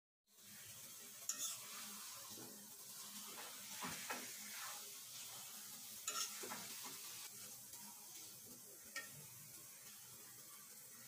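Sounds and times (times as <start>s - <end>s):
pickle sizzling faintly: 0.3s - 11.0s
metal spatula scraping: 0.5s - 11.0s.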